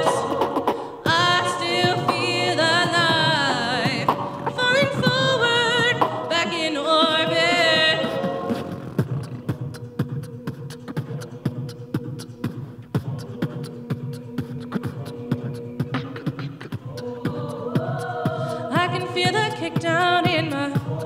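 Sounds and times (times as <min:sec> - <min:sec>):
person beatboxing: 0:00.0 - 0:21.0
voices singing: 0:00.0 - 0:21.0.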